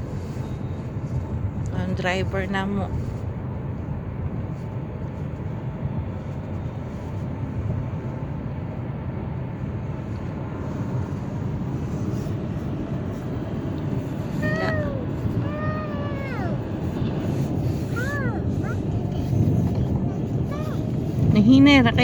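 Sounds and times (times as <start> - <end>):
car engine drone: 0.0 - 22.0
tyre noise on road: 0.0 - 22.0.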